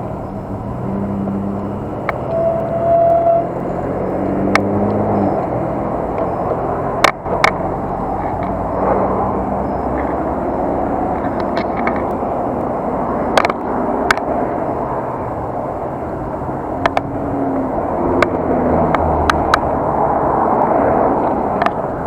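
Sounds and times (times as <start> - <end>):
bicycle road and wind noise: 0.0 - 22.0
vehicle engine humming: 0.0 - 22.0.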